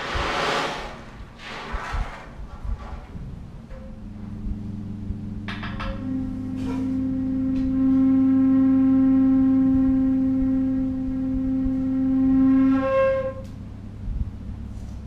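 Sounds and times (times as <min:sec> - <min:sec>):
low hum: 0:00.0 - 0:15.0
wind tube low note: 0:02.6 - 0:15.0.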